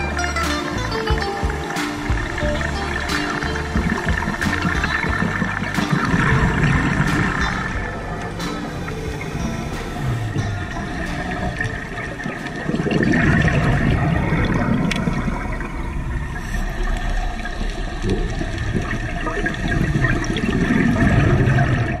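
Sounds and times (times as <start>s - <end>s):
underwater exhaled bubbles: 1.6s - 22.0s.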